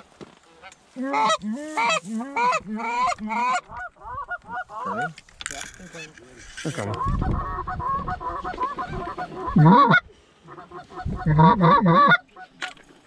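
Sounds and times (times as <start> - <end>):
geese honking: 0.6 - 5.2, 6.8 - 12.6.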